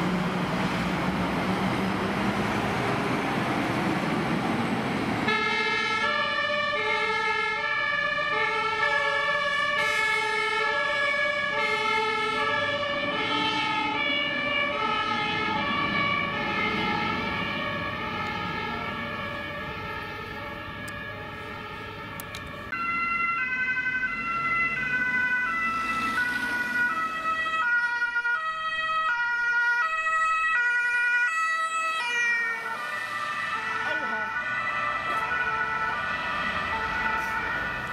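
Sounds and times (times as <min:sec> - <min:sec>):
fire engine two-tone sirens: 0:00.0 - 0:37.9
police car two-tone siren: 0:05.3 - 0:37.9.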